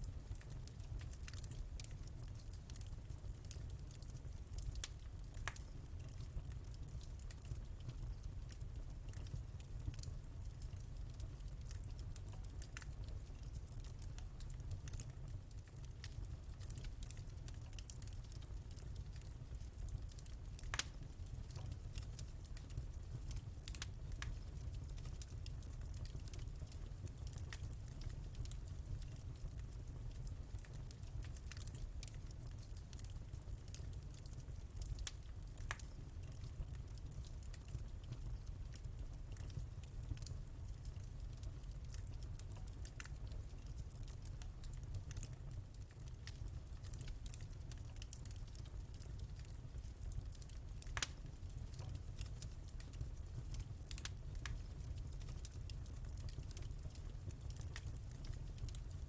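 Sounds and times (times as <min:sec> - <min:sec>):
fire low rumble: 0:00.0 - 0:59.0
wood fire crackling: 0:00.0 - 0:59.0.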